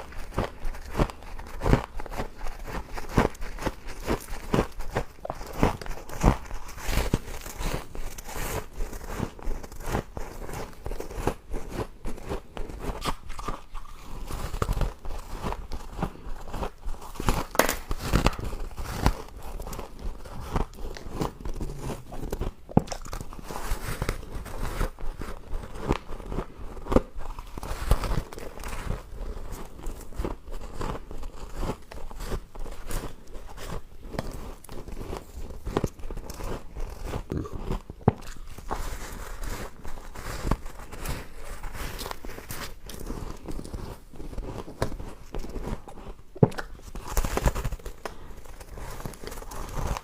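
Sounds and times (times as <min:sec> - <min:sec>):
ice being chewed: 0:00.0 - 0:50.0.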